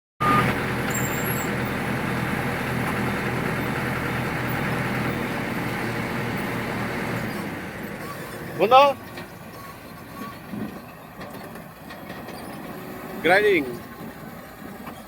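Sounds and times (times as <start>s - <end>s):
heavy diesel engine running: 0.2s - 15.0s.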